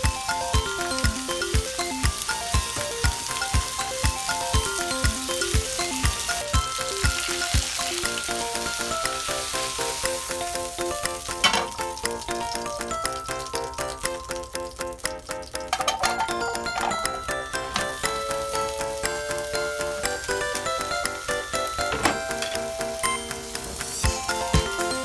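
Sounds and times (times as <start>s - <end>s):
background music with steady beat: 0.0s - 25.0s
chicken sizzling in a pan: 0.0s - 25.0s.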